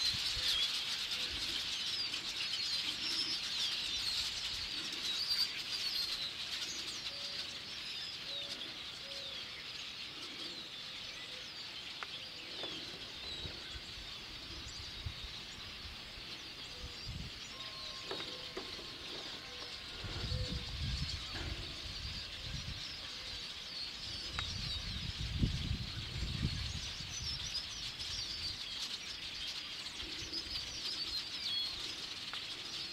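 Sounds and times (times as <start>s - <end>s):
flock of birds chirping: 0.0s - 32.9s.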